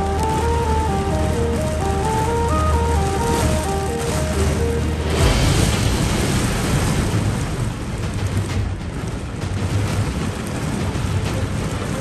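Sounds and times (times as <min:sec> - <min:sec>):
heavy rain pouring: 0:00.0 - 0:12.0
low thunder rumble: 0:00.0 - 0:12.0.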